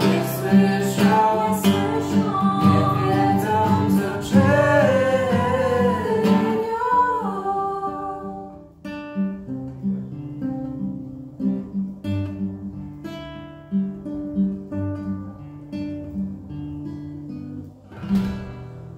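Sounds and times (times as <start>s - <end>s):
nylon-string guitar playing: 0.0s - 18.9s.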